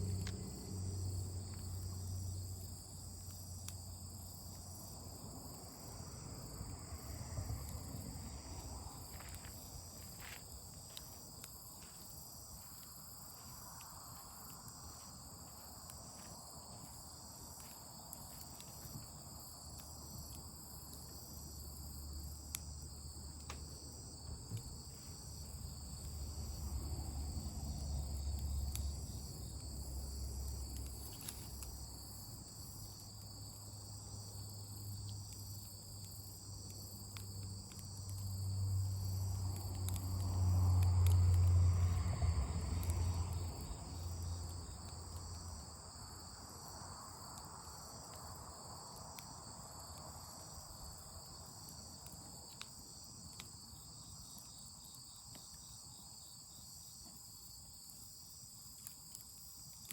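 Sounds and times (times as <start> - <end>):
campfire crackling: 0.0 - 59.9
insects trilling: 0.0 - 59.9.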